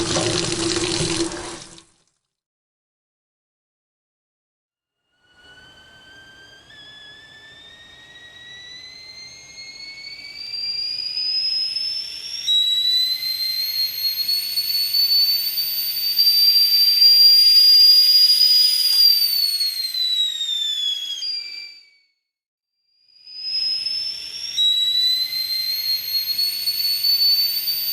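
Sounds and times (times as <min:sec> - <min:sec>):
kettle whistling: 0:00.0 - 0:01.8, 0:05.2 - 0:22.1, 0:23.2 - 0:27.9.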